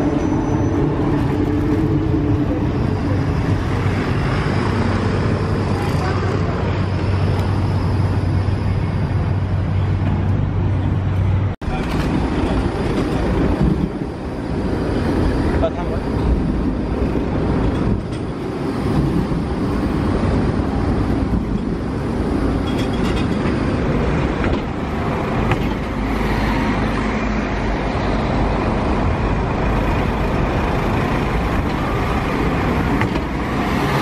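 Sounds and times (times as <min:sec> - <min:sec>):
buses passing close: 0:00.0 - 0:34.0
tram rolling past: 0:00.0 - 0:34.0.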